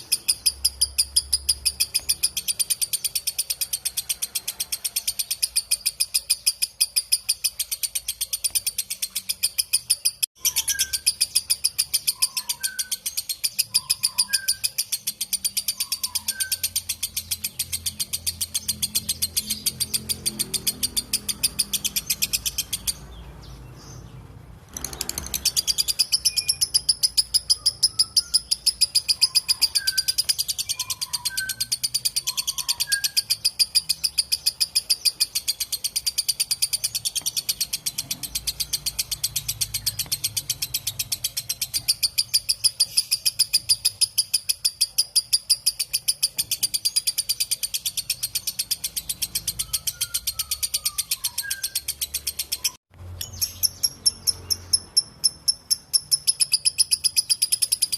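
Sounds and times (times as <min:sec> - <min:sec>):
lovebird chattering: 0:00.0 - 0:57.9.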